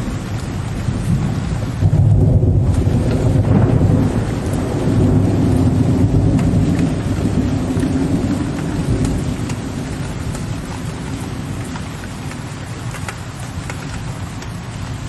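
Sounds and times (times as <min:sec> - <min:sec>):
low rolling thunder: 0:00.0 - 0:15.0
raindrops ticking on window ledge: 0:00.0 - 0:15.0
steady rain: 0:00.0 - 0:15.0.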